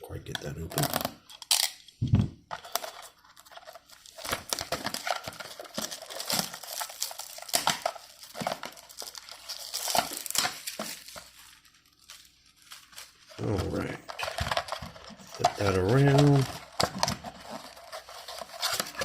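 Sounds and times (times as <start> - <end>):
plastic packaging crinkling and tearing: 2.5 - 19.0.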